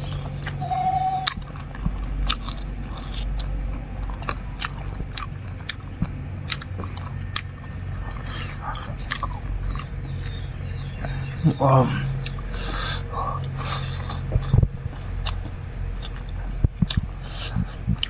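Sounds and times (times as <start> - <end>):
person chewing and crunching: 0.0 - 18.0
steady low hum: 0.0 - 18.0.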